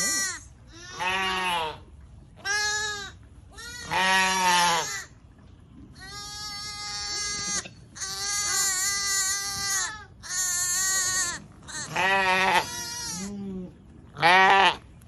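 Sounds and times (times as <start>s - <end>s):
sheep bleating: 0.0s - 1.8s, 2.4s - 5.1s, 6.0s - 13.4s, 14.2s - 14.8s.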